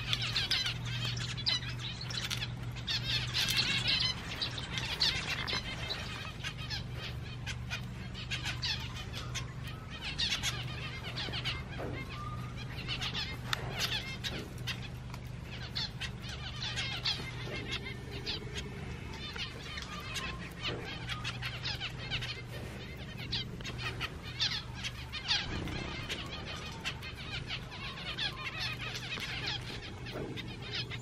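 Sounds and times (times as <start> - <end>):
finches chirping: 0.0 - 31.0
low steady hum: 0.0 - 31.0.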